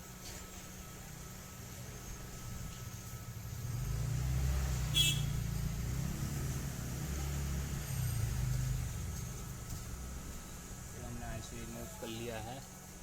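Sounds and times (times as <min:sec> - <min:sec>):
hot-air blower rumble: 0:00.0 - 0:13.0.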